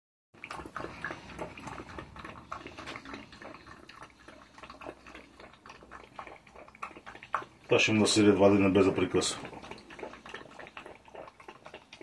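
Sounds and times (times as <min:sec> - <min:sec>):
dog lapping water: 0:00.4 - 0:12.0.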